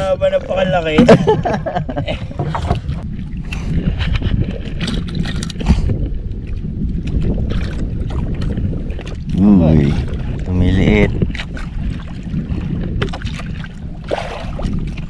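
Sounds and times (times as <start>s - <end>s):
water sounds: 0.0s - 15.0s
wind buffeting microphone: 0.0s - 15.0s.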